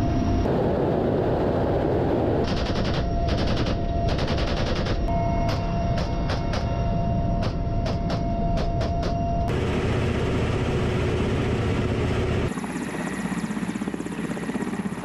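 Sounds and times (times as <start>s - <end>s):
helicopter engines and rotor: 0.0s - 15.0s.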